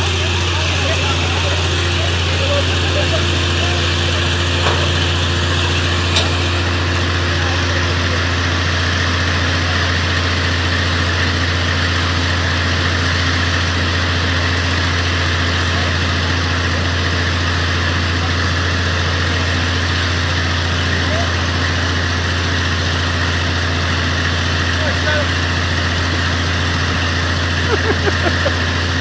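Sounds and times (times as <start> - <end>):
large engine idling: 0.0 - 29.0.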